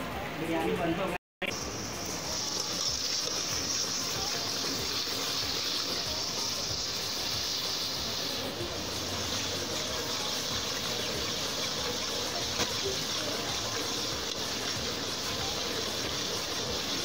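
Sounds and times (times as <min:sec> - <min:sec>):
pot simmering hiss: 0:01.4 - 0:17.0.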